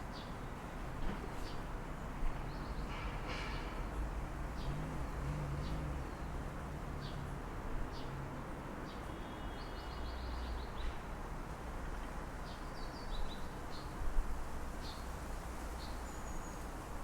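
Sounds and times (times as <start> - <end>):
distant city traffic rumble: 0.0 - 13.8.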